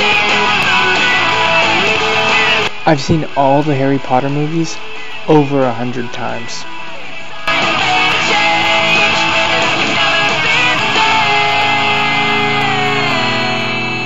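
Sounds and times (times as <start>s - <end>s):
rock music with guitar: 0.0s - 14.0s.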